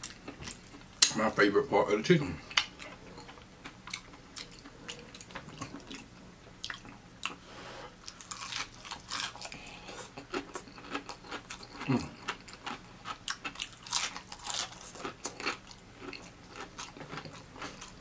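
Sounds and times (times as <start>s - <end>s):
person chewing crispy chicken: 2.4s - 18.0s.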